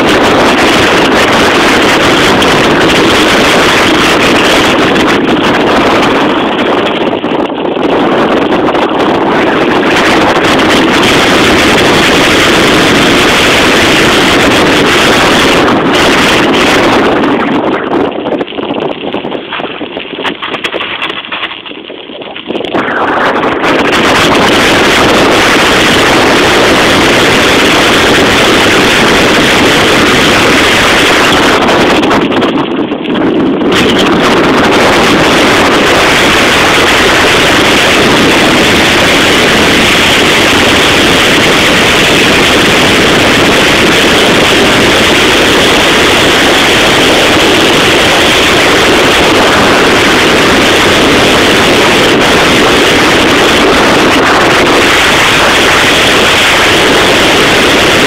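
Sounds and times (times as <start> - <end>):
heavy wind buffeting microphone: 0.0 - 58.0.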